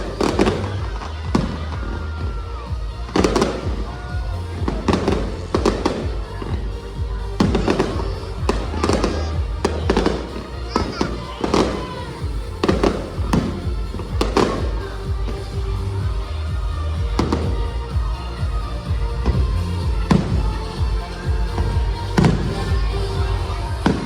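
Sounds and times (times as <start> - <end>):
fireworks bangs: 0.0 - 24.0
music playing: 0.0 - 24.0.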